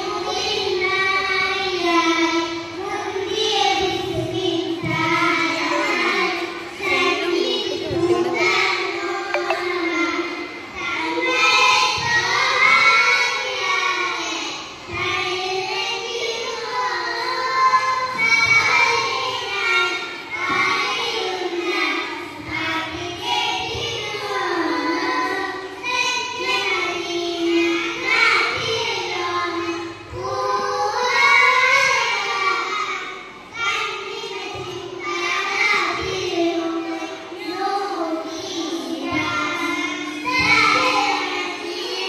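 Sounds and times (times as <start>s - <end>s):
child singing: 0.0s - 42.0s.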